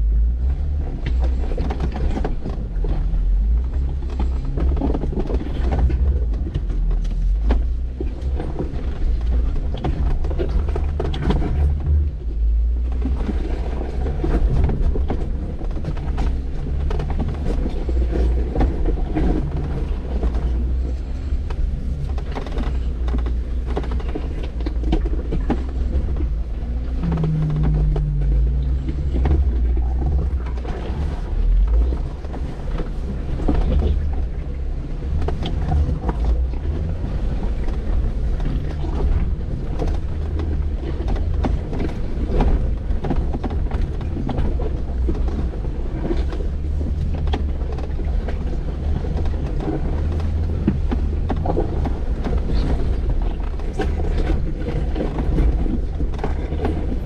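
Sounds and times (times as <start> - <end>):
off-road vehicle engine rumbling: 0.0 - 57.0.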